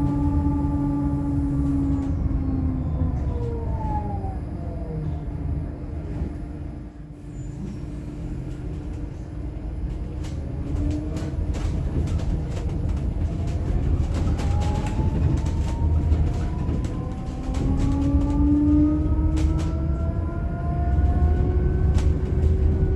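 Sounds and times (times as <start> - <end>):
low road rumble: 0.0 - 22.9.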